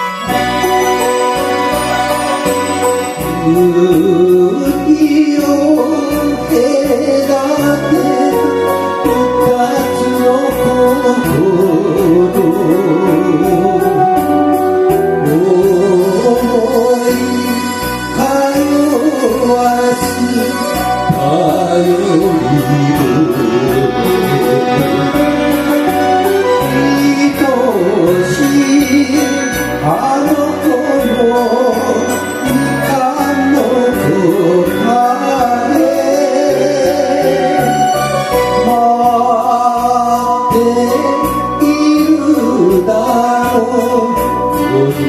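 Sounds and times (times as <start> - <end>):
backing track with steady beat: 0.0 - 45.0
person singing karaoke: 0.0 - 45.0.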